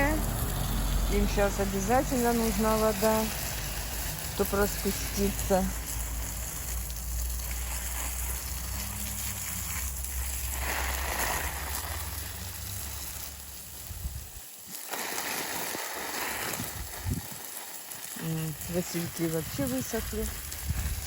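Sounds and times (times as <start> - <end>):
water pouring onto plants: 0.0 - 21.0.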